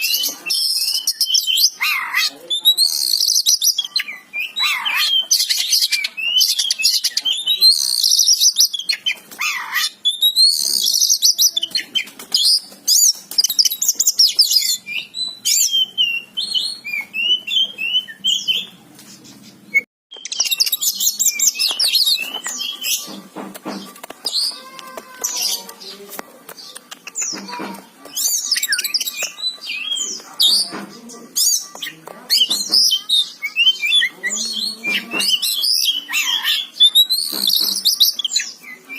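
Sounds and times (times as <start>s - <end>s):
bird singing chirps and whistles: 0.0s - 1.8s, 2.6s - 18.7s, 19.7s - 23.2s, 28.1s - 30.7s, 31.4s - 38.9s.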